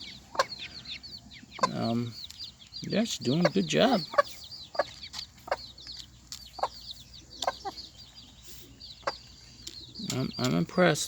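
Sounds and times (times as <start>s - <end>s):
chicks peeping: 0.0s - 11.0s
hen clucking: 0.0s - 11.0s.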